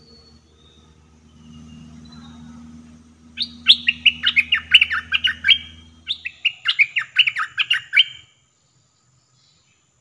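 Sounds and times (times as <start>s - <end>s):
bulbul singing: 0.0s - 8.4s
faint low hum: 0.0s - 10.0s.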